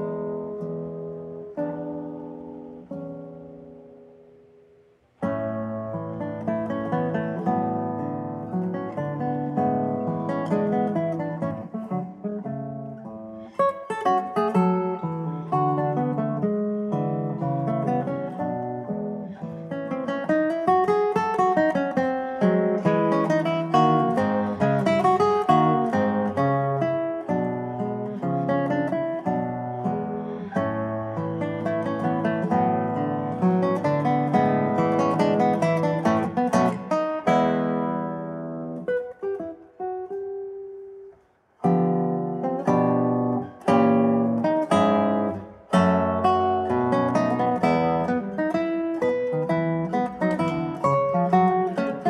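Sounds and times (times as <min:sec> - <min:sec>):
classical guitar playing: 0:00.0 - 0:52.0.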